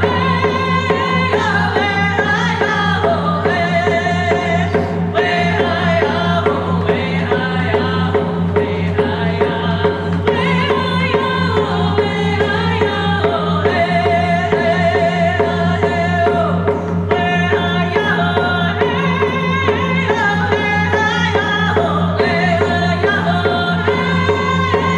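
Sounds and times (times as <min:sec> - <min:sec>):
hand drum beating: 0:00.0 - 0:24.9
women singing: 0:00.0 - 0:24.9.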